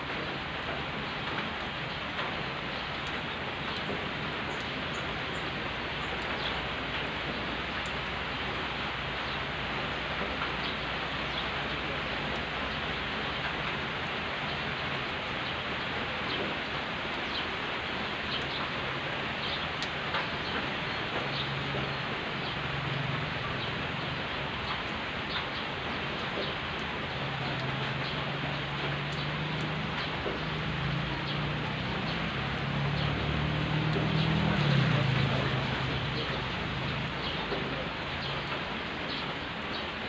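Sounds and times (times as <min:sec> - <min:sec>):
rain drop ticks: 0:00.0 - 0:40.0
rain hissing on dirt road: 0:00.0 - 0:40.0.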